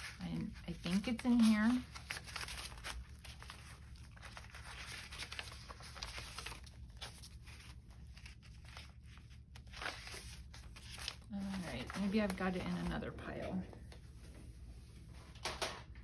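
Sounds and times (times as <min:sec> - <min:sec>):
paper rustling: 0:00.0 - 0:14.3.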